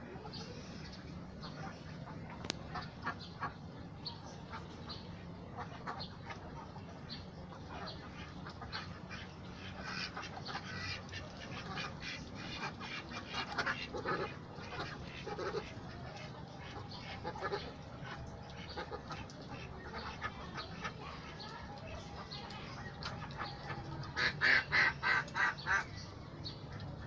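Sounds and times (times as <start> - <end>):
ducks quacking: 0.0 - 27.0.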